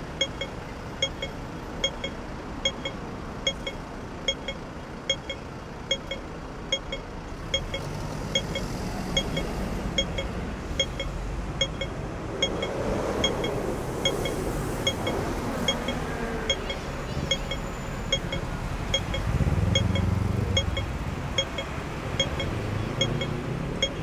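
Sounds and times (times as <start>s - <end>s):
crossing signal beeping: 0.0s - 24.0s
street traffic rumble: 0.0s - 24.0s.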